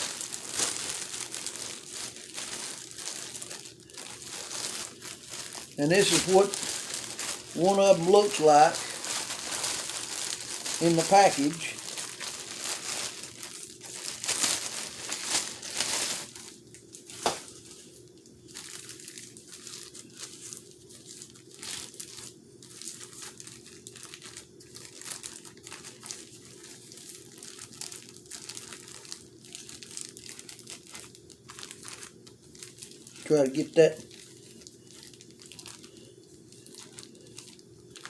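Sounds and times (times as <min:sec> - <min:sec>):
plastic packaging crinkling: 0:00.0 - 0:38.0.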